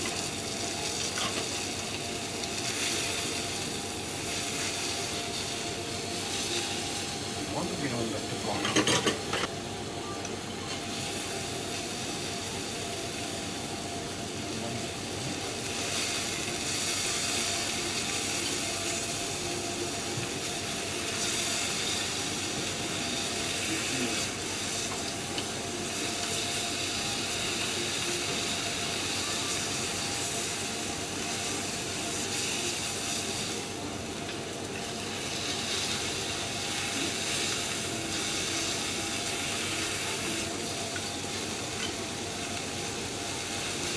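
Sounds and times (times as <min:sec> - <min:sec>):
meat sizzling on a griddle: 0:00.0 - 0:09.5, 0:10.4 - 0:43.9.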